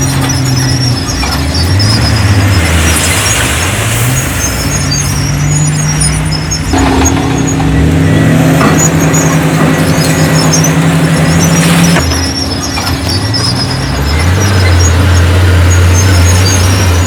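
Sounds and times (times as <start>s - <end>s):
heavy diesel engine under load: 0.0s - 17.0s
short high squeaks: 0.0s - 17.0s.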